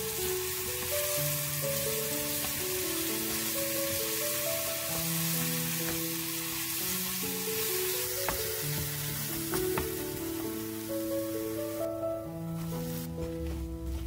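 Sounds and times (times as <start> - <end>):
paste sizzling in oil: 0.0 - 13.2
background music: 0.0 - 14.0.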